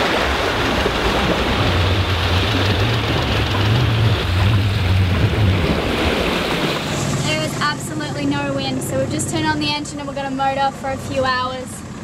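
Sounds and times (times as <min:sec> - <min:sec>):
water rushing: 0:00.0 - 0:11.2
low hum: 0:00.0 - 0:12.0
wind: 0:00.0 - 0:12.0.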